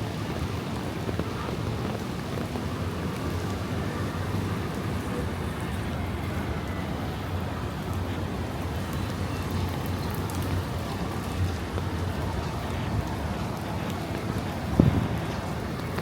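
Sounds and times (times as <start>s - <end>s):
rain falling on street: 0.0s - 16.0s.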